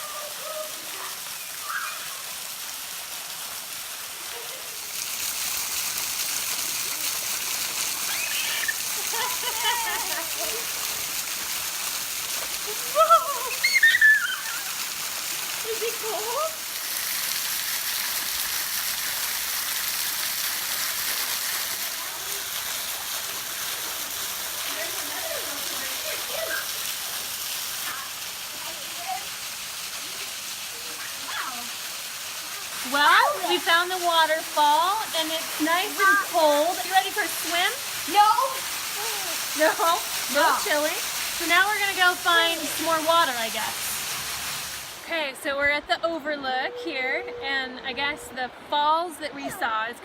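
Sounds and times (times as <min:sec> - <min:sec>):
waterfall splashing: 0:00.0 - 0:46.0.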